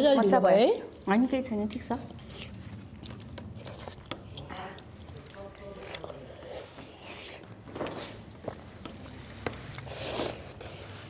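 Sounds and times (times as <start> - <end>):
soft eating noises: 0.0 - 11.0.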